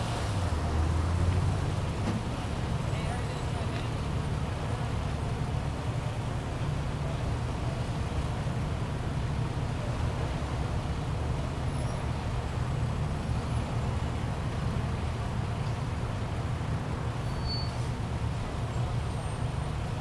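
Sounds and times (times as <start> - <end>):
vehicle engines idling: 0.0 - 20.0.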